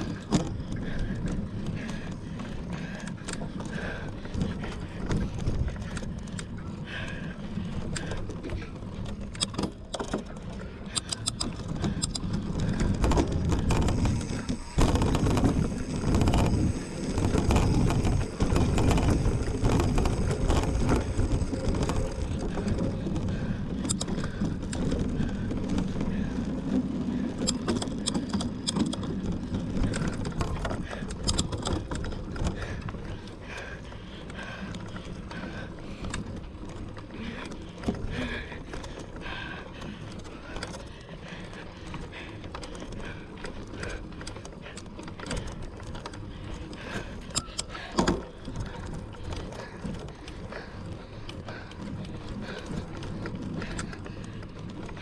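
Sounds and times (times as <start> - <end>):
bike chain and frame rattling: 0.0 - 55.0
bike tyres rumbling on rough ground: 0.0 - 55.0.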